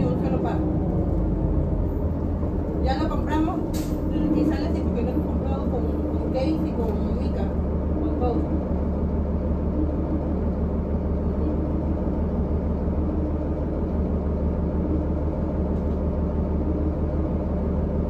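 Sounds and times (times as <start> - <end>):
diesel bus engine drone: 0.0 - 18.0.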